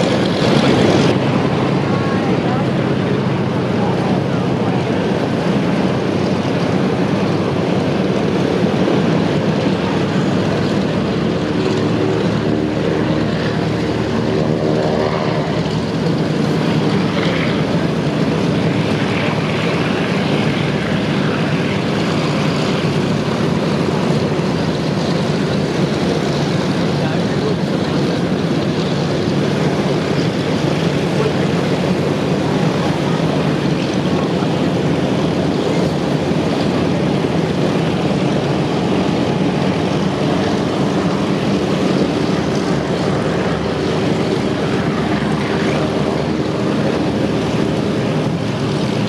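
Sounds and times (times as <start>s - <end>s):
aircraft piston engines droning: 0.0s - 49.0s.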